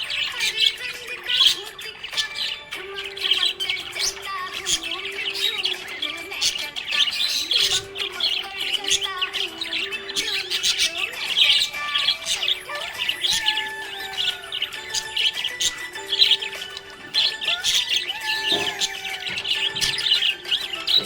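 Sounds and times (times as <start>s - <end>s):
budgerigars chirping: 0.0s - 21.0s.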